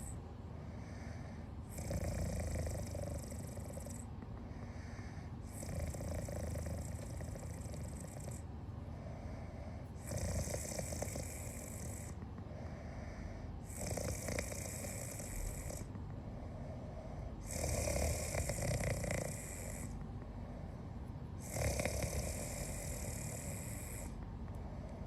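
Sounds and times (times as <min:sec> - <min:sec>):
soft rhythmic snoring: 0:00.0 - 0:25.0.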